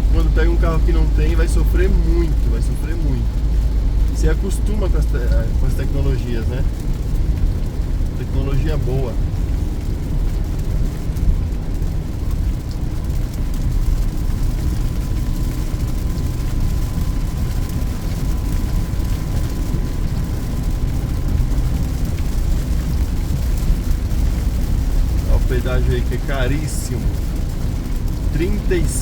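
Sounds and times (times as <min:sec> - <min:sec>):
car engine and tyres rumbling: 0:00.0 - 0:29.0
rain and spray hiss: 0:00.0 - 0:29.0.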